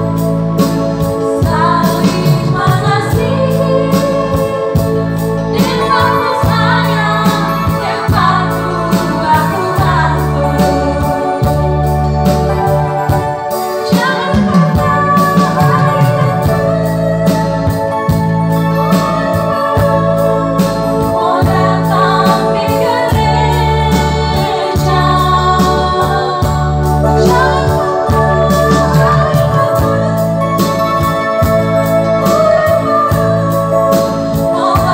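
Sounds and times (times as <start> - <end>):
electronic keyboard chords: 0.0 - 34.9
steady bass line: 0.0 - 34.9
woman singing into microphone: 1.1 - 34.9.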